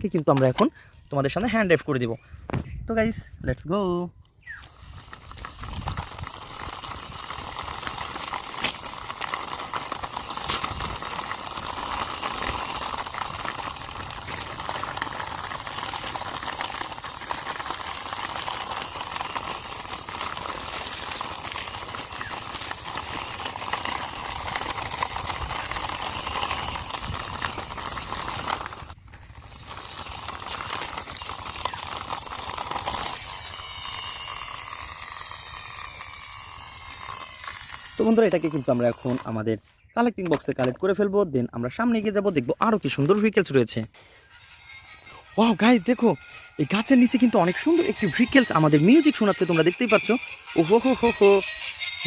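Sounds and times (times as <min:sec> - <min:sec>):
toy truck wheels rolling and scraping: 0:00.1 - 0:00.7, 0:04.3 - 0:41.1, 0:41.7 - 0:52.0.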